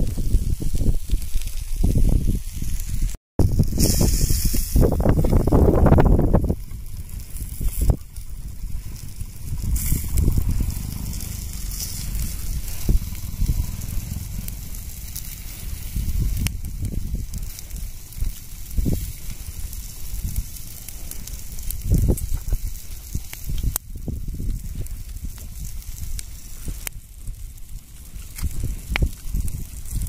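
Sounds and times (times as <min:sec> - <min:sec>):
wind buffeting microphone: 0:00.0 - 0:30.0
wood fire crackling: 0:00.0 - 0:30.0.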